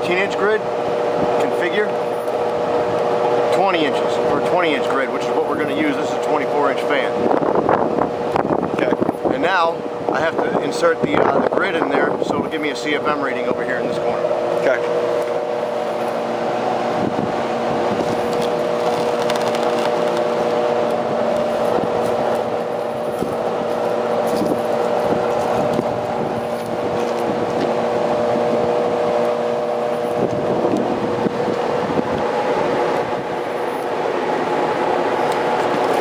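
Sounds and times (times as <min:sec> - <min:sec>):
exhaust fans droning: 0:00.0 - 0:36.0.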